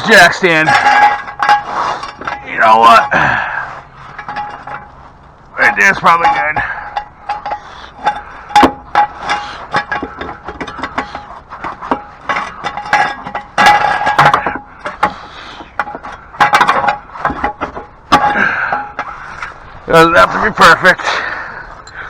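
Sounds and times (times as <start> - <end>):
metal jack stand clinking: 0.0 - 5.0, 5.6 - 19.7.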